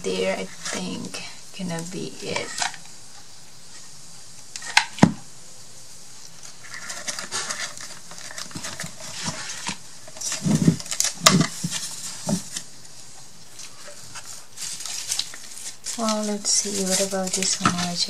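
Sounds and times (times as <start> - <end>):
paper or plastic rustling: 0.0 - 2.9, 6.2 - 18.0.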